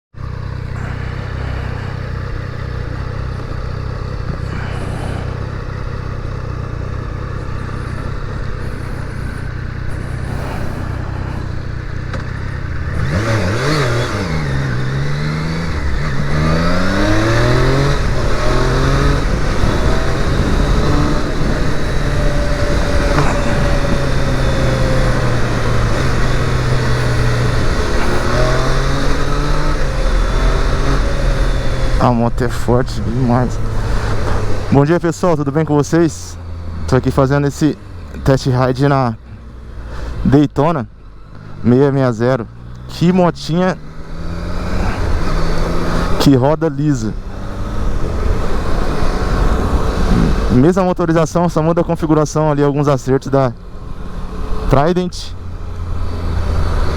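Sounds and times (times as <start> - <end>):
motorcycle engine revving: 0.1 - 56.9.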